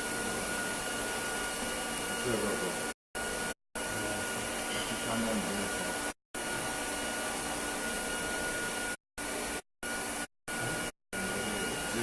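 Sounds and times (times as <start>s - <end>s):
hot-air blower hissing: 0.0s - 12.0s.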